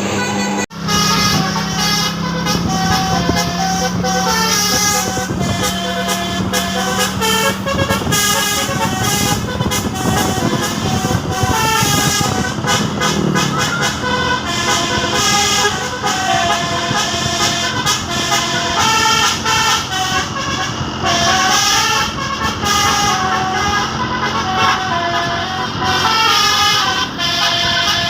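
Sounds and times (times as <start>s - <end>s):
bus horn playing a tune: 0.0s - 28.0s.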